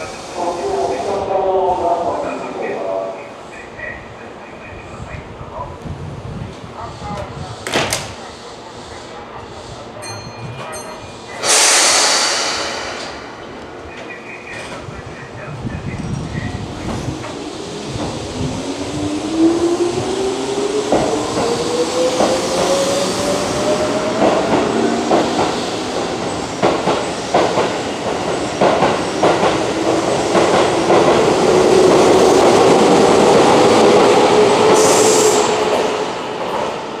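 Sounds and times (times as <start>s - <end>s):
rush of train cars passing: 0.0s - 37.0s.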